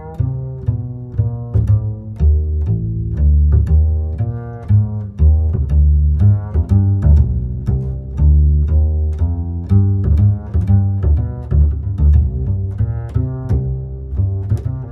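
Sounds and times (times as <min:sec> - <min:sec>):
bass line: 0:00.0 - 0:14.9
low plucked and bowed strings: 0:00.0 - 0:14.9.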